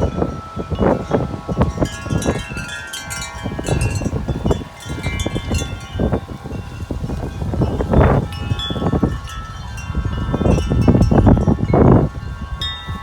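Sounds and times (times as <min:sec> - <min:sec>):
large tubular wind chimes ringing: 0:00.0 - 0:13.0
wind gusts rumbling on microphone: 0:00.0 - 0:13.0.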